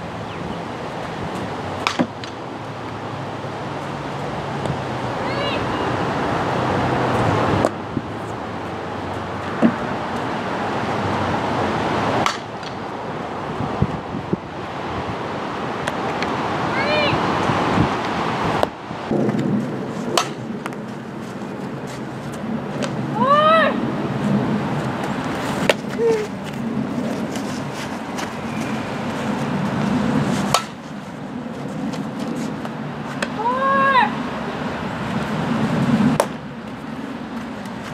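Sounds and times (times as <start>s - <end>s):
wind rumble on microphone: 6.1s - 12.2s, 12.8s - 37.9s.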